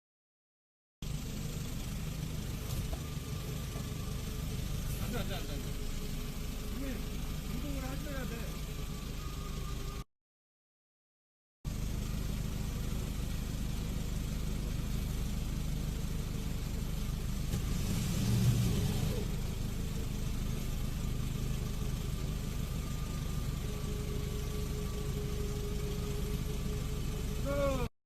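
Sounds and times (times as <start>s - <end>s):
road noise: 1.0s - 10.0s, 11.7s - 27.9s
vehicle engine hum: 1.0s - 10.1s, 11.7s - 27.9s.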